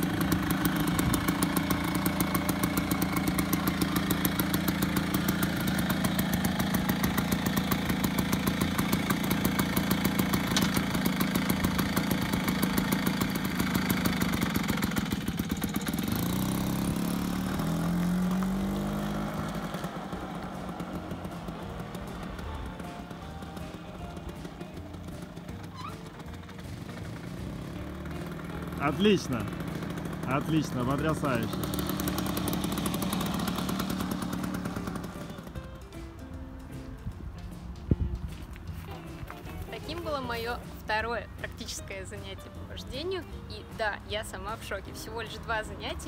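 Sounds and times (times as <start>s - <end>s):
scooter engine idling and revving: 0.0s - 46.0s.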